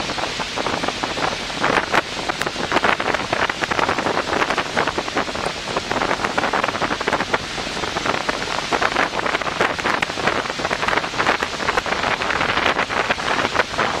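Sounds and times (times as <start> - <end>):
rushing splashing water: 0.0 - 14.0
wind buffeting microphone: 0.0 - 14.0.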